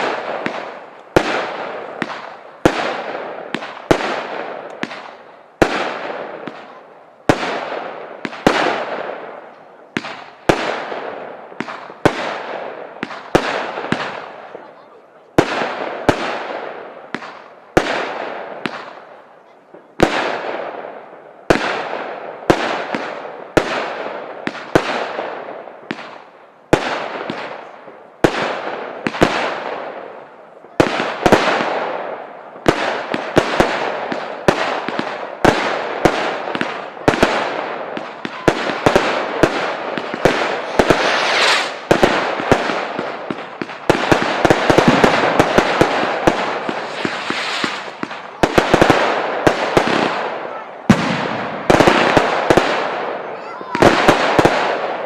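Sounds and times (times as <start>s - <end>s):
fireworks bursting: 0.0s - 55.0s.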